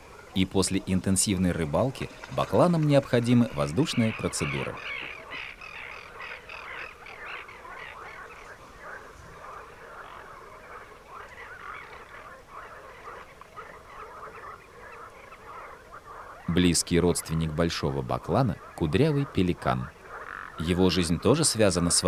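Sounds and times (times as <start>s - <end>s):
chorus of animal calls: 0.0s - 22.0s.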